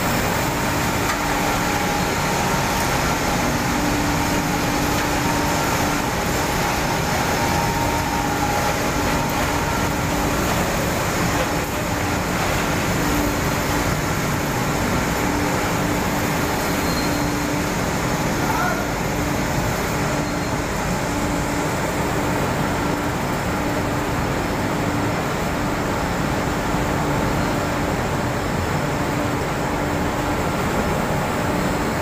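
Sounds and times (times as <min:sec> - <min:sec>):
machine noise of rollers and motors: 0:00.0 - 0:32.0.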